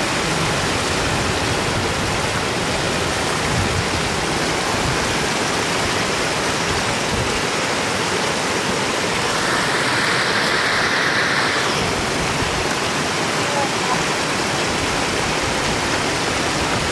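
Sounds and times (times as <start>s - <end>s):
floodwater rushing: 0.0s - 16.9s.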